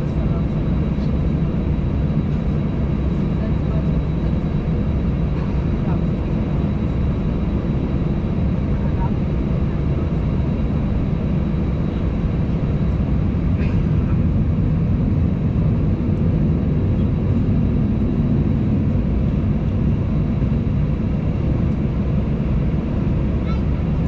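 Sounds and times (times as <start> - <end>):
jet engines idling: 0.0 - 24.0.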